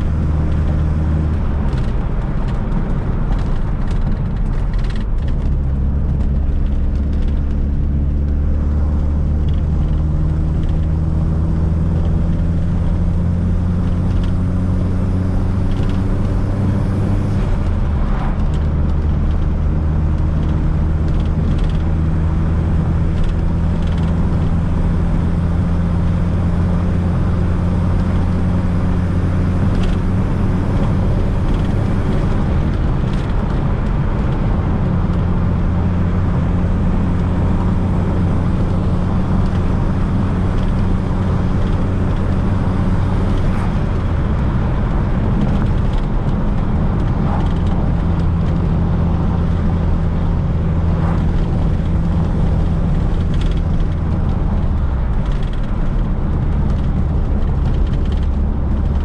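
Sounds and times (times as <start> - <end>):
car engine accelerating: 0.0 - 59.0
tyre and road noise: 0.0 - 59.0.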